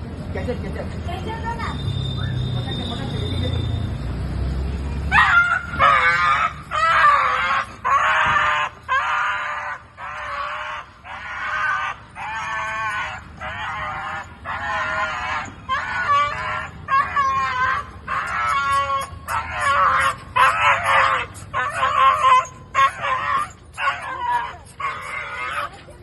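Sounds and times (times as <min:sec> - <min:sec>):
dog yelping in distress: 0:05.1 - 0:26.0.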